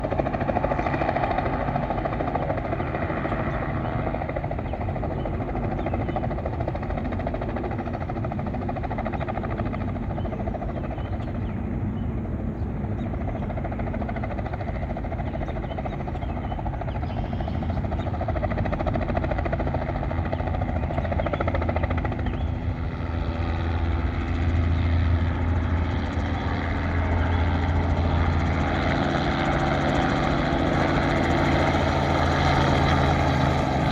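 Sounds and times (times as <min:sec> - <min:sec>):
helicopter rotor drone: 0:00.0 - 0:33.9.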